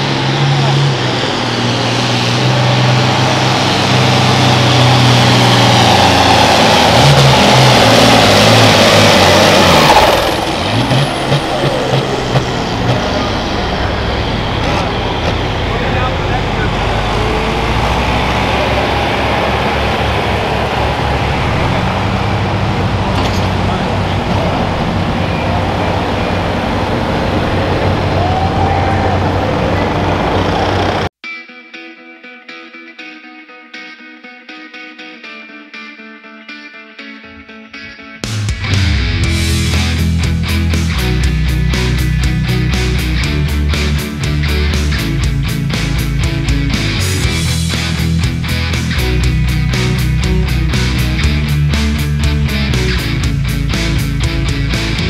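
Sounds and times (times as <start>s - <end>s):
tractor diesel engine at full throttle: 0.0s - 31.2s, 38.7s - 55.0s
electric guitar music: 0.0s - 55.0s.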